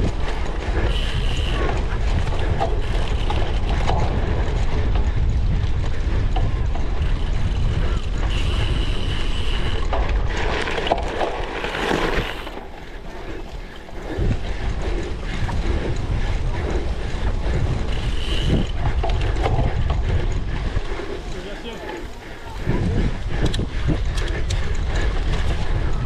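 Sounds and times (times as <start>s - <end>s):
bike rattling over rough ground: 0.0s - 26.0s
wind buffeting microphone: 0.0s - 26.0s.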